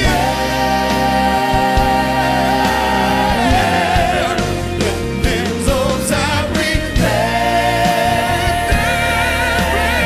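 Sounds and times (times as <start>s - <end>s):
drums: 0.0s - 10.0s
piano: 0.0s - 10.0s.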